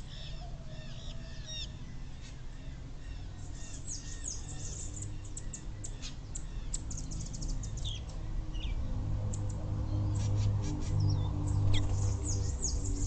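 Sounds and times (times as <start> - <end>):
low steady hum: 0.0 - 13.0
wild birds chirping: 0.0 - 13.0.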